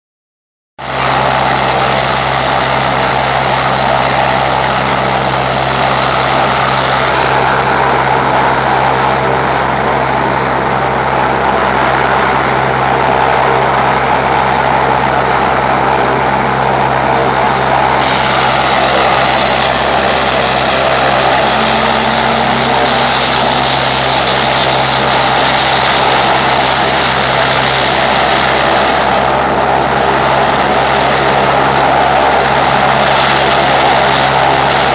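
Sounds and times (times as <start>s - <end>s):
helicopter engines and rotor whine: 0.8s - 34.9s.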